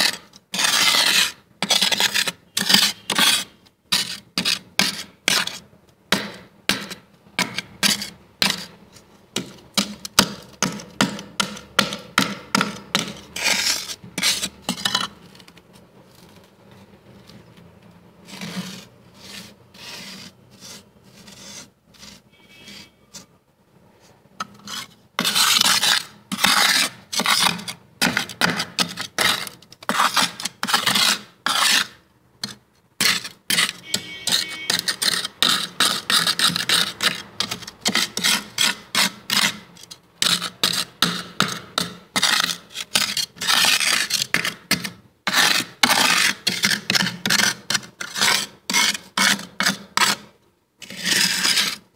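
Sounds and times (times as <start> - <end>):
freezer frost being scraped: 0.0 - 5.6, 6.3 - 15.4, 18.2 - 23.3, 24.4 - 51.9.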